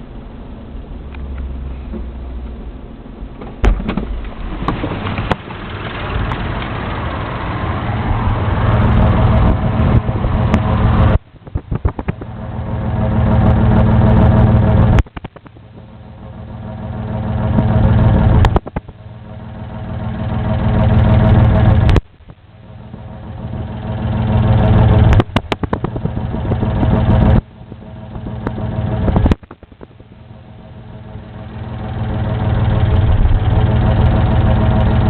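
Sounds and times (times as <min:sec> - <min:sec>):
engine idling roughly: 0:03.2 - 0:35.0.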